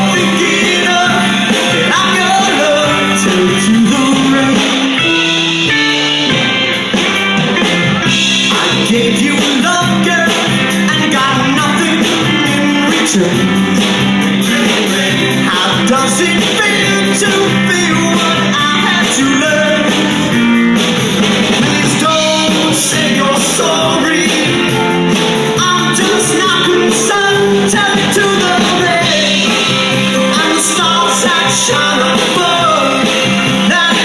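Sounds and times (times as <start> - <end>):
man singing: 0.0 - 5.8, 8.0 - 20.5, 21.5 - 34.0
bass guitar: 0.0 - 34.0
drums: 0.0 - 34.0
electric guitar: 0.0 - 34.0.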